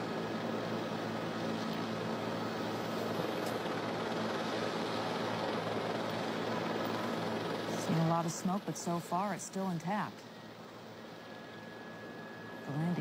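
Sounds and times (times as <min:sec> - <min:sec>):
helicopter cabin hum: 0:00.0 - 0:13.0
low engine and rotor tones: 0:00.0 - 0:13.0.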